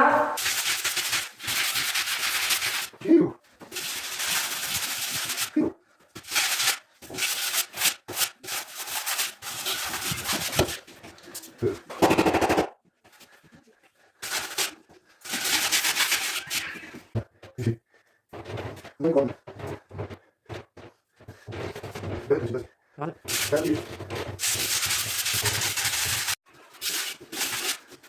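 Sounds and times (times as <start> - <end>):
sandpaper scraping walls: 0.1 - 11.8, 14.1 - 28.0.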